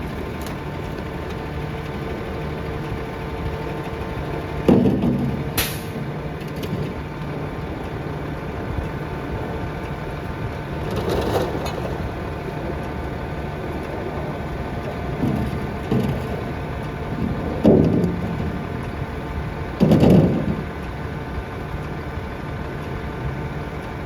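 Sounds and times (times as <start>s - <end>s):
garbage truck engine drone: 0.0s - 24.0s.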